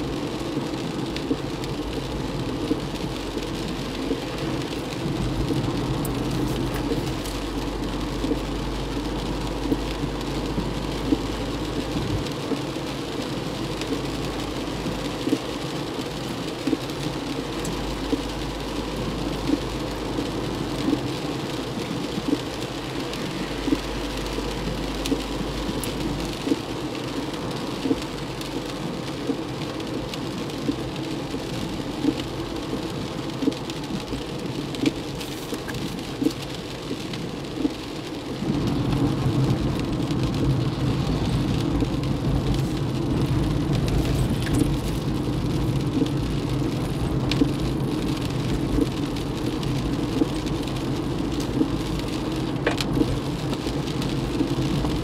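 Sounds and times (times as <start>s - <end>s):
heavy rain on car: 0.0s - 55.0s
tyre noise on wet road: 0.0s - 55.0s
windscreen wipers knocking: 0.4s - 55.0s.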